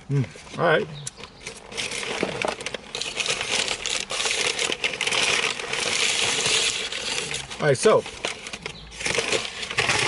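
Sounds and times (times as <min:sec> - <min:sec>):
paper bag rustling: 0:00.5 - 0:10.0.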